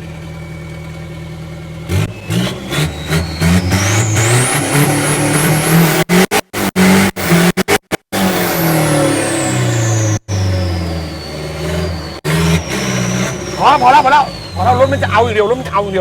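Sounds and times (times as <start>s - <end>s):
car engine revving: 0.0s - 16.0s
high whine: 2.1s - 16.0s.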